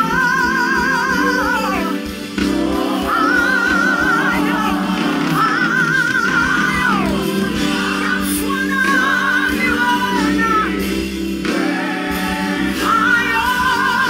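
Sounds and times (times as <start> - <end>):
gospel singing with vibrato: 0.0 - 14.0
instrumental backing: 0.0 - 14.0.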